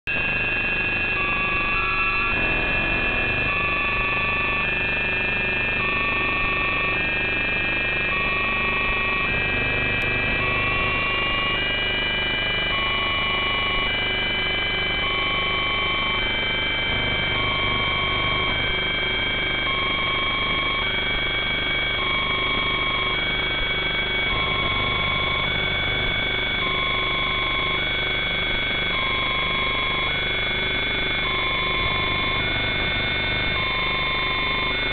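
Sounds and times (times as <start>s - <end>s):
drone motors whining: 0.1s - 34.9s
two-tone electronic beep: 0.1s - 34.9s.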